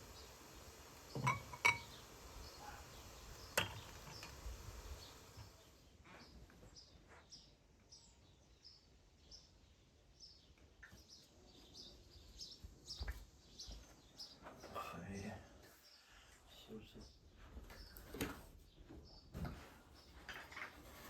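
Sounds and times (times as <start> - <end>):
small birds chirping: 0.0 - 20.4.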